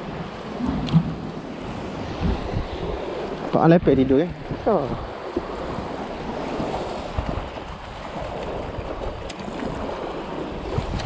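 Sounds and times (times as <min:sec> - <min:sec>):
sea water washing: 0:00.0 - 0:11.0
wind buffeting microphone: 0:00.0 - 0:11.0.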